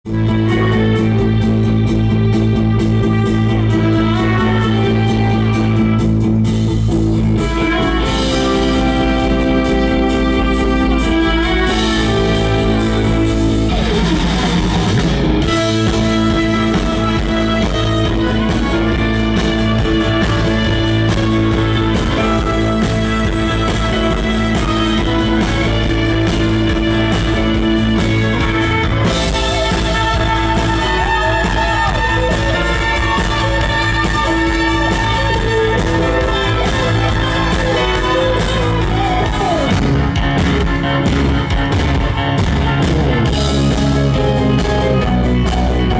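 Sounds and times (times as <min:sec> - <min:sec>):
electric guitar: 0:00.0 - 0:45.9
electric violin lead: 0:00.0 - 0:45.9
live rock band playing: 0:00.0 - 0:45.9.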